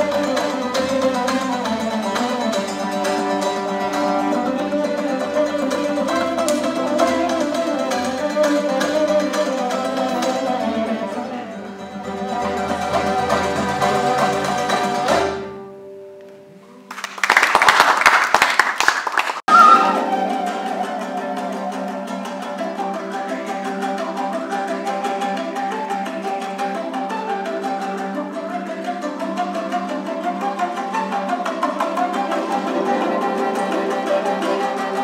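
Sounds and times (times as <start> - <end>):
folk string ensemble: 0.0 - 15.8, 19.5 - 35.0.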